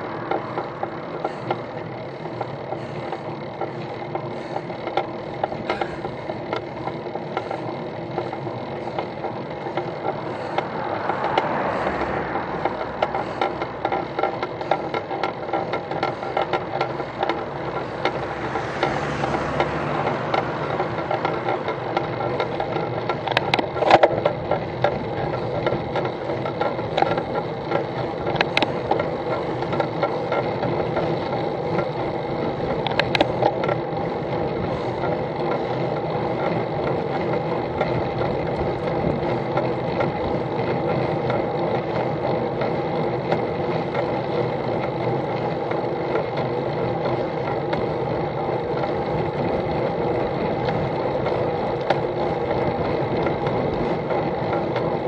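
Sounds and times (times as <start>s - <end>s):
bicycle whirring and rattling: 0.0s - 55.0s.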